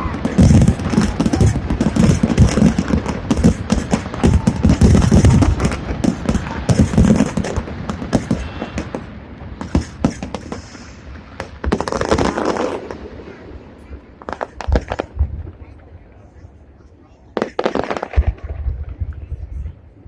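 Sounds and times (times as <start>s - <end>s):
fireworks bangs and crackles: 0.0s - 16.5s, 17.3s - 19.9s.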